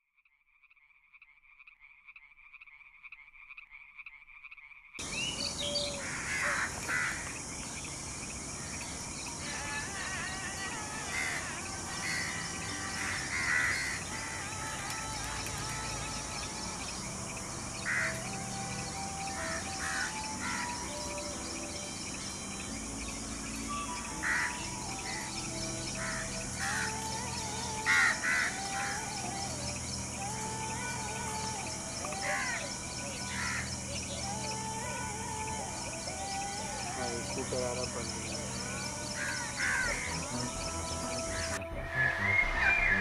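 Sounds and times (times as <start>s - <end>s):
birds calling: 5.0s - 43.0s
calm background music: 5.0s - 43.0s
high insect hiss: 5.0s - 43.0s.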